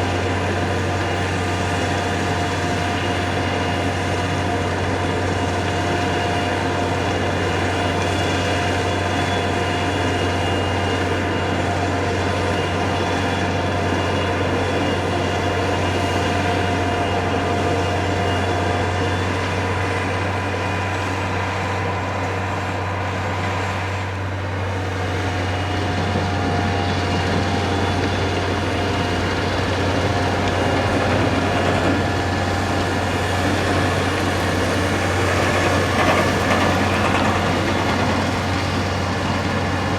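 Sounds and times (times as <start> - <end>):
heavy vehicle engine humming: 0.0 - 39.9.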